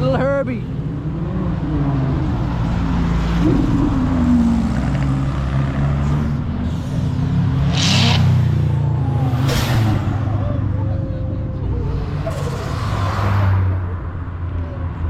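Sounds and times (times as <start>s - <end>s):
cars driving slowly past: 0.0s - 15.0s.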